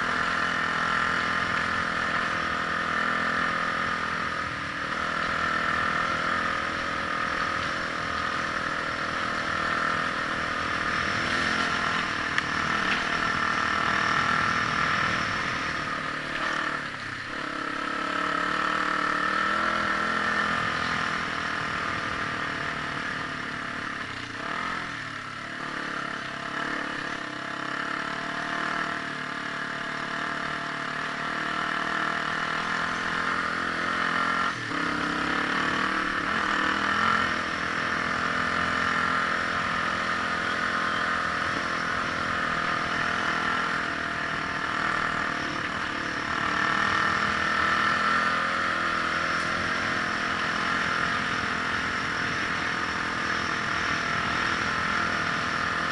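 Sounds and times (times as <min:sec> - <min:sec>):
vehicle engine revving: 0:00.0 - 0:55.9.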